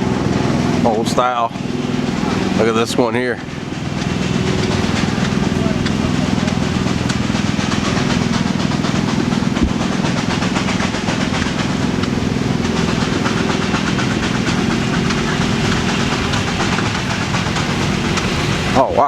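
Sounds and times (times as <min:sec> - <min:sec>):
old engine chugging: 0:00.0 - 0:19.0.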